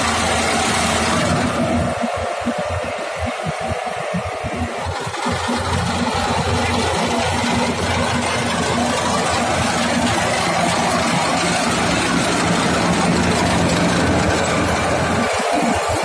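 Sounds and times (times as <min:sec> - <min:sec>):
engine drone: 0:00.0 - 0:16.0
harvesting machinery whirring: 0:00.0 - 0:16.0.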